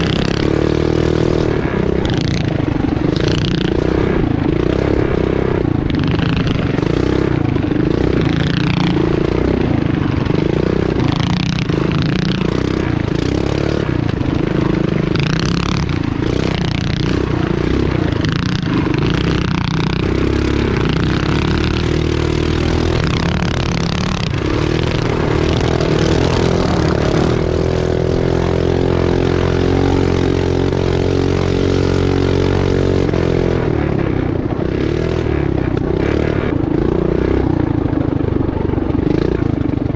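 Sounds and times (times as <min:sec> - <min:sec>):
small engine revving: 0:00.0 - 0:39.9.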